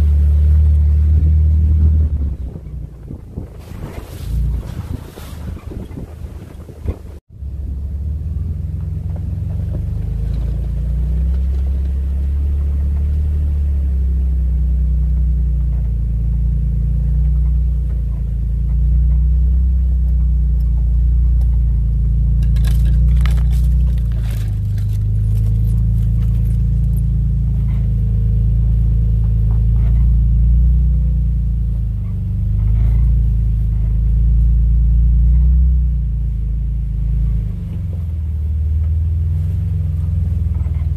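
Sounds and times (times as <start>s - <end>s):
low vehicle rumble: 0.0s - 40.9s.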